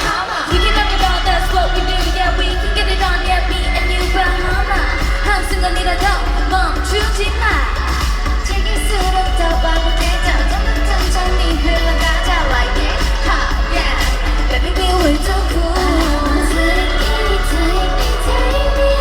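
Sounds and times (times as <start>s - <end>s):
backing track with heavy bass: 0.0s - 19.0s
women singing pop song: 0.0s - 19.0s.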